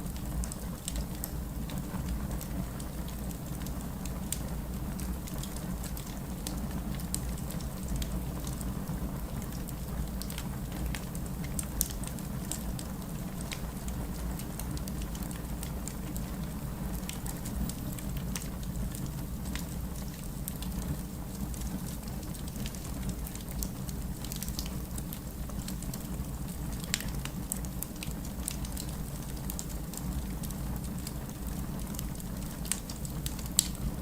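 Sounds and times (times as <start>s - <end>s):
steady rain: 0.0s - 34.0s
wood fire crackling: 0.0s - 34.0s.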